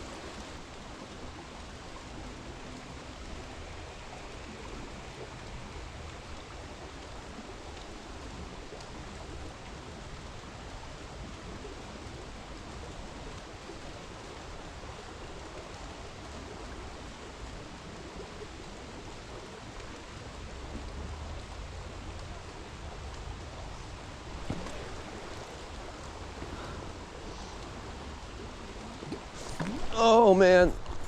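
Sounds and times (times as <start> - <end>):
falling rain: 0.0 - 31.0
stream water rushing: 0.0 - 31.0.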